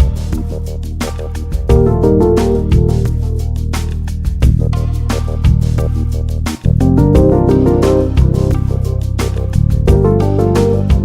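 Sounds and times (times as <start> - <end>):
electronic drums: 0.0 - 11.0
held bass and synth notes: 1.2 - 11.0.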